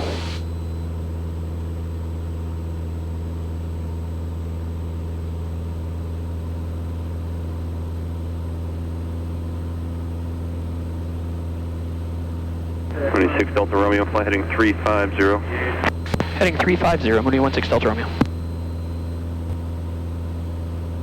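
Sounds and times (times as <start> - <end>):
aircraft engine and propeller drone: 0.0 - 21.0.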